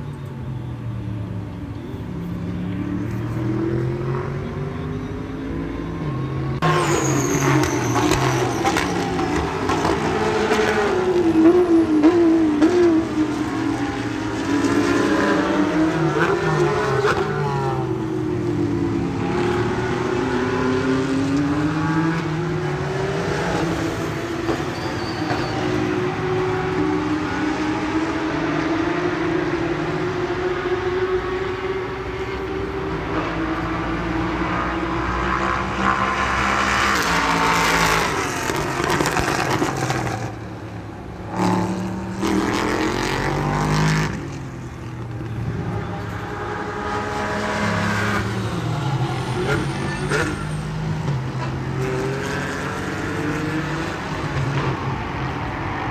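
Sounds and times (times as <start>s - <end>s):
race cars passing at speed: 0.7s - 55.9s.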